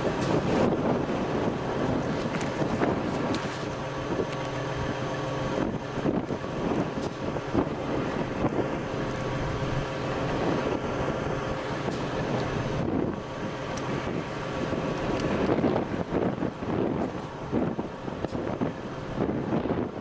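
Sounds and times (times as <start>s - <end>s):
low motor hum: 0.0s - 20.0s
wind noise: 0.0s - 20.0s.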